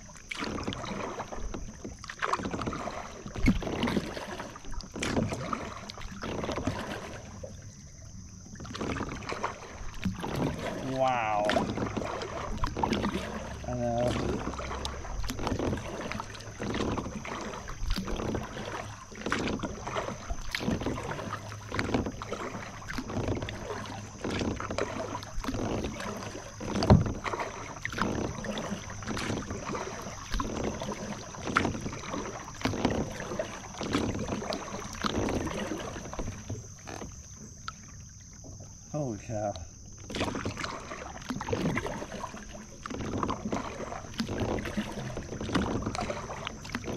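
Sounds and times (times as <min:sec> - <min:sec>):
kayak paddle splashing: 0:00.0 - 0:46.9.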